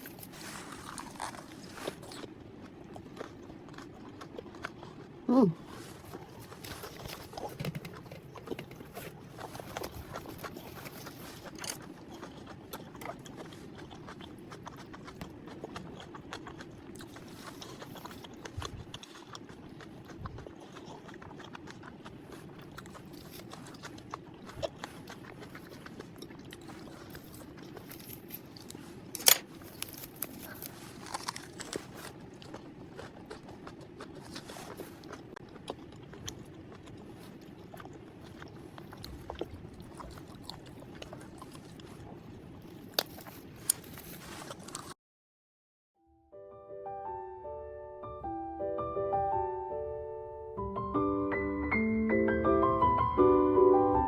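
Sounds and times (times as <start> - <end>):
faint steady hum: 0.0 - 45.0
person chewing and crunching: 0.0 - 45.0.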